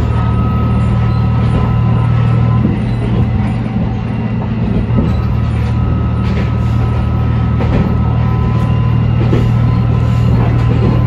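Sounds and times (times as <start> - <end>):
railcar engine drone: 0.0 - 11.0
wheels clicking over rail joints: 0.0 - 11.0.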